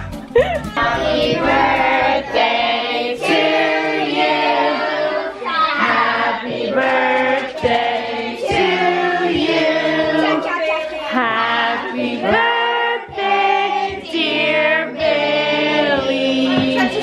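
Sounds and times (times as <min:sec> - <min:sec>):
children and adults singing: 0:00.4 - 0:17.0.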